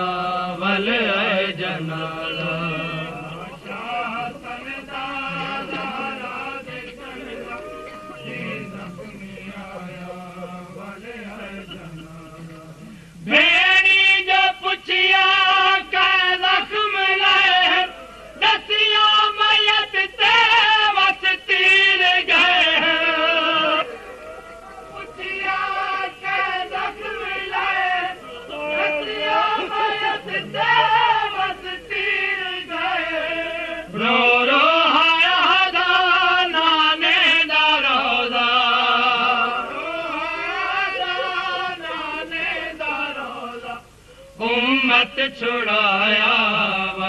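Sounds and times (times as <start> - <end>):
person singing devotional song: 0.0 - 24.1, 24.7 - 47.0.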